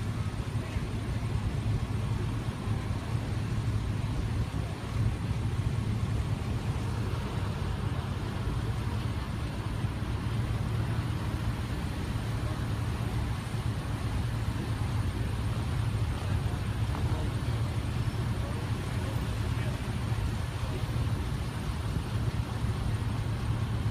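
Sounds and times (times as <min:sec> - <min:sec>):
truck engines idling: 0:00.0 - 0:23.9.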